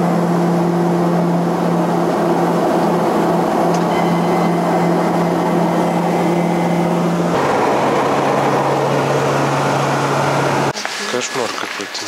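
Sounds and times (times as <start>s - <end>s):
propeller engine drone in cabin: 0.0s - 10.8s.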